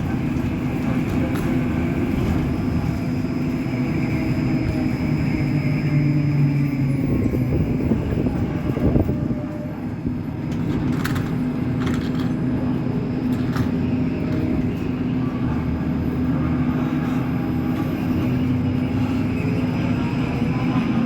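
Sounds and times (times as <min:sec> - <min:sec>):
bus engine humming: 0:00.0 - 0:21.0.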